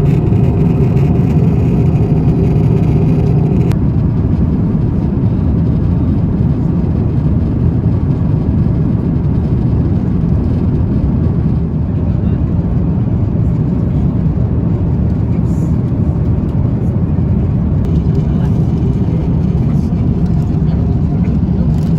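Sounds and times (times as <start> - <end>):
airliner cabin rumble: 0.0 - 21.9.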